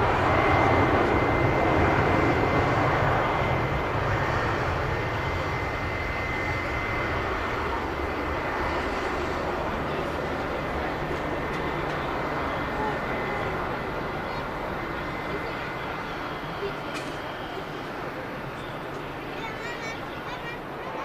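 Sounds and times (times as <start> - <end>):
airliner engine rush with high whine: 0.0 - 21.0.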